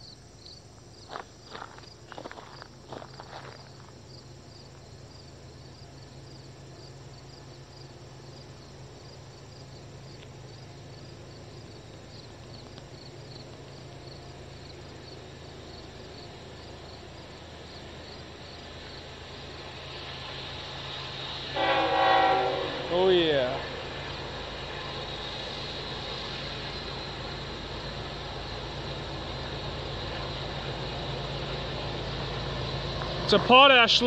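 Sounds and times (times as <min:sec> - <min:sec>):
distant freight train rumble: 0:00.0 - 0:34.0
insects chirping: 0:00.0 - 0:34.0.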